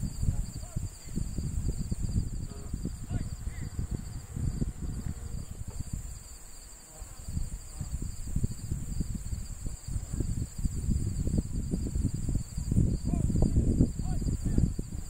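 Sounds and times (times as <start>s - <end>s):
high insect trilling: 0.0s - 15.0s
wind buffeting microphone: 0.0s - 15.0s.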